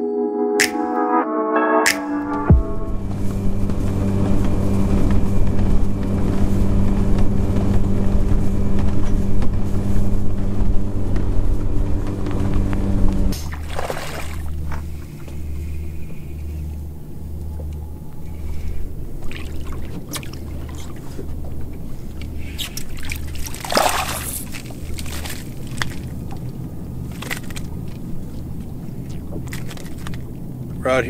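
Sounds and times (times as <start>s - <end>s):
pulsing low hum: 0.0s - 30.8s
water splashing and sloshing: 3.0s - 30.9s.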